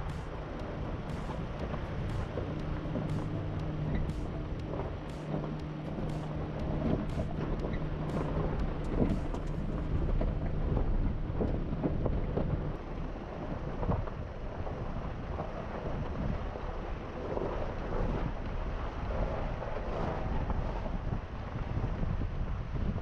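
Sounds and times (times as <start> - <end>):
low engine hum: 0.0 - 23.0
wind rumbling on microphone: 0.0 - 23.0.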